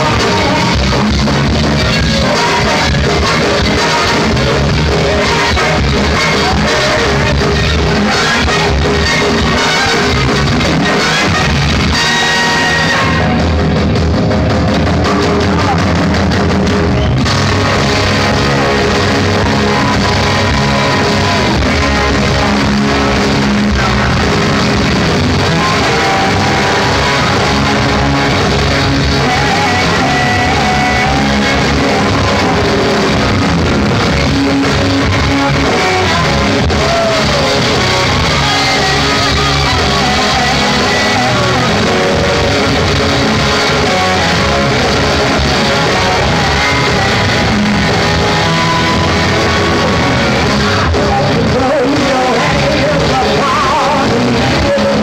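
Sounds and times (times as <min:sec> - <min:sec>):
lead vocalist singing: 0:00.0 - 0:13.5, 0:17.5 - 0:55.0
live rock band with horns: 0:00.0 - 0:55.0.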